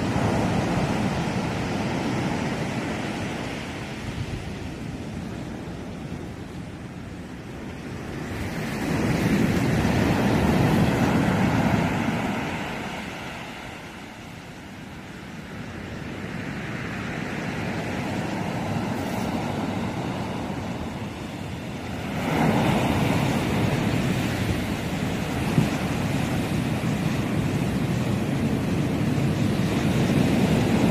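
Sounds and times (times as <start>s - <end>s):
sea surf breaking: 0.0s - 6.6s, 7.3s - 30.9s.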